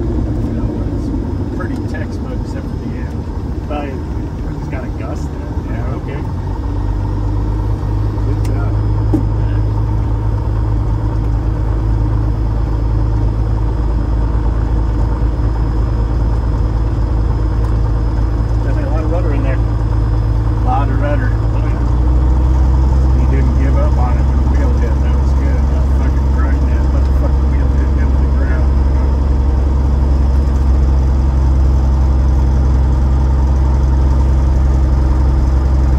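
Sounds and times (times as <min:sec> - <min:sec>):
aircraft engine and propeller drone: 0:00.0 - 0:35.9.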